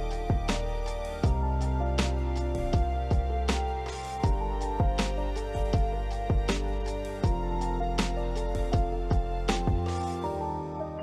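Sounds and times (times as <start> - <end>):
lo-fi hip-hop music: 0.0 - 11.0.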